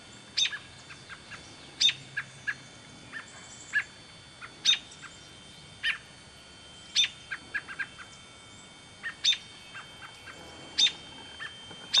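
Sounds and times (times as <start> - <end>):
bird fledgling calling: 0.3 - 6.1, 6.8 - 12.0.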